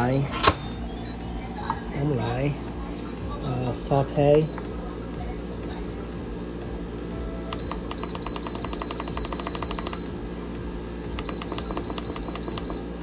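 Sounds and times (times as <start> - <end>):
background music: 0.0 - 13.0
fast ticking beat: 0.8 - 13.0.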